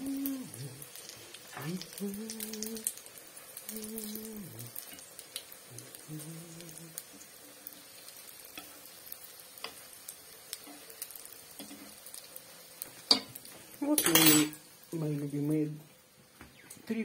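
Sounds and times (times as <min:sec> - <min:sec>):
fritters sizzling in hot oil: 0:00.0 - 0:17.0.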